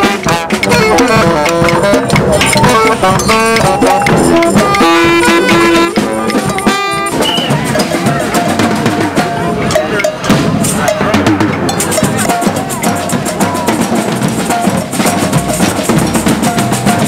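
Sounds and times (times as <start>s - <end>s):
drums and percussion: 0.0s - 17.0s
horns playing a melody: 0.0s - 17.0s.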